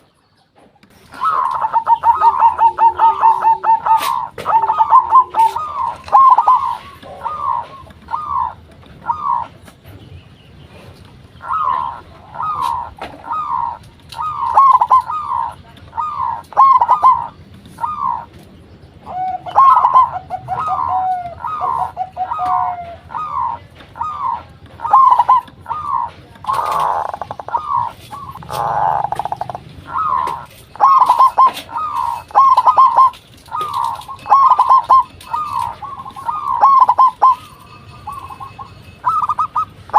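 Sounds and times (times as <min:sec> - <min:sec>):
doves cooing: 0:00.9 - 0:39.9.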